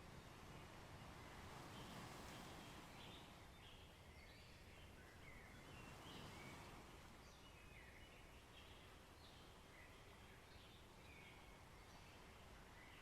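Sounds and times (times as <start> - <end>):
soft low background noise: 0.0 - 13.0.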